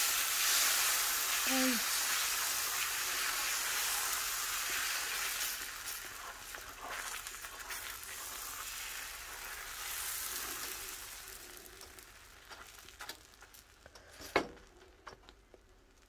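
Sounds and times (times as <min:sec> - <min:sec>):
batter sizzling on hot pan: 0:00.0 - 0:16.0.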